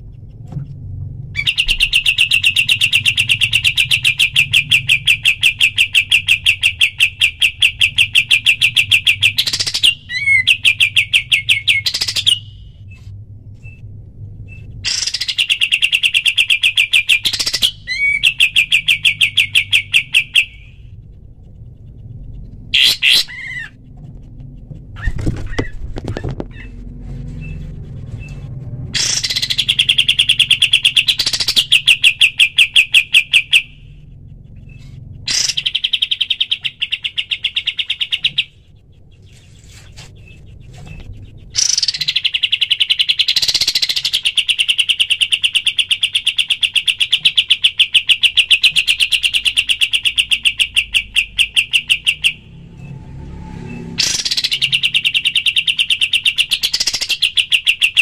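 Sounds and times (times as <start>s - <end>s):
songbird rapid chirping song: 0.0s - 25.8s, 26.5s - 58.0s.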